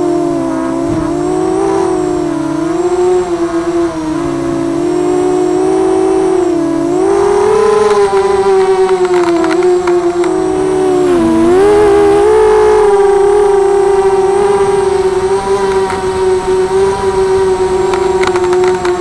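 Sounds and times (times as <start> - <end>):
faint ticks: 0.0 - 19.0
quadcopter motors whining: 0.0 - 19.0.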